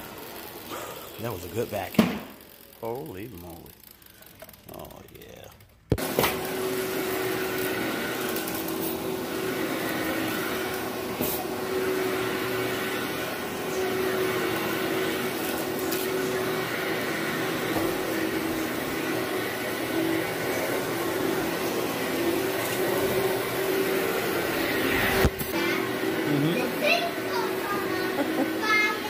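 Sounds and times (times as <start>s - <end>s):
vacuum cleaner running: 0.0s - 5.2s, 5.9s - 29.0s.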